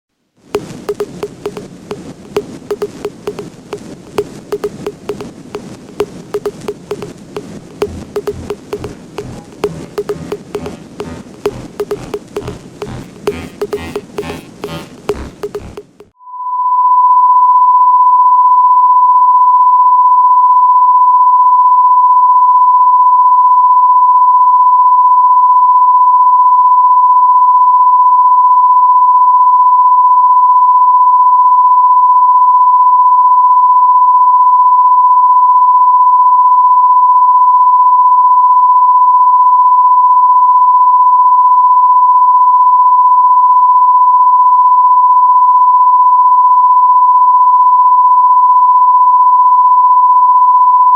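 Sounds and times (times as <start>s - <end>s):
steady sine-wave beep: 0.6s - 50.9s.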